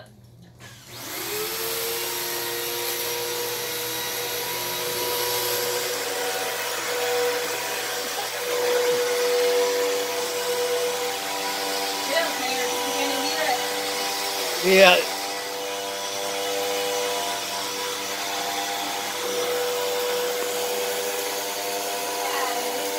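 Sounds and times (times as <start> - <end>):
vacuum cleaner motor whining: 0.6 - 22.9.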